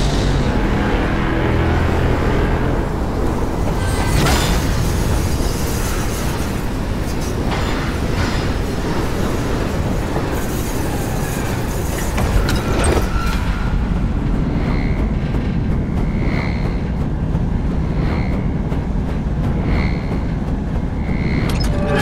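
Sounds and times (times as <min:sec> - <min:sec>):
roller coaster wheels rumbling: 0:00.0 - 0:22.0.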